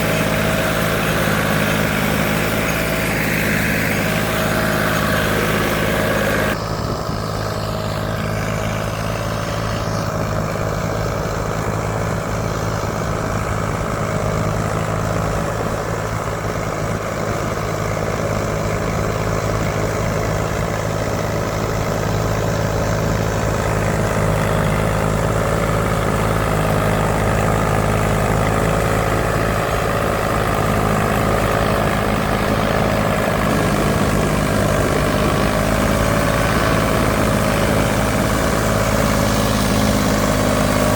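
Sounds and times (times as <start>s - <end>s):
tractor diesel engine throbbing: 0.0s - 40.9s.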